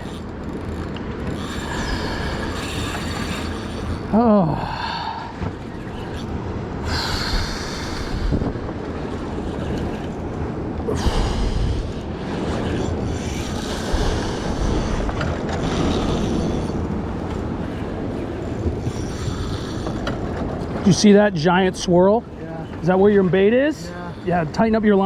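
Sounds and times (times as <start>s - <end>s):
wind buffeting microphone: 0.0s - 21.0s
waves washing around boat: 0.0s - 25.0s.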